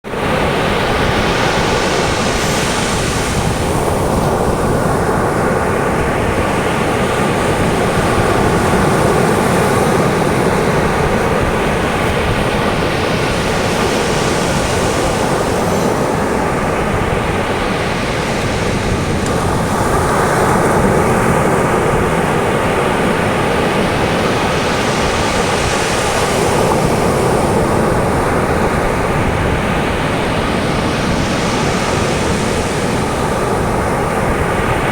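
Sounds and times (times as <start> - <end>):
waves rushing on sandy beach: 0.0 - 34.9.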